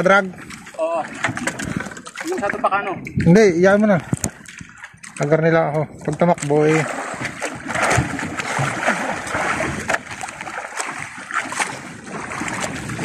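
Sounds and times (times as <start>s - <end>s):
waves slapping against boat hull: 0.0s - 13.0s.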